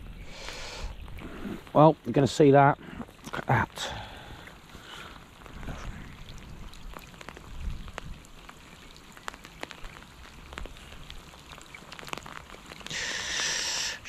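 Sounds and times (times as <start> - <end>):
rain falling on river: 0.0 - 14.0.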